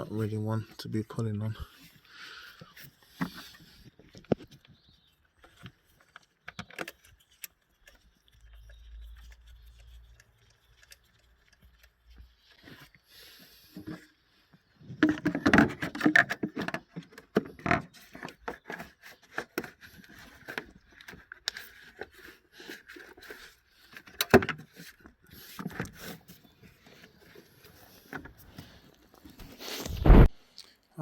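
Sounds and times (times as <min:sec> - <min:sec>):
clicks knocks and scrapes of handwork: 0:02.6 - 0:14.2, 0:14.8 - 0:30.3.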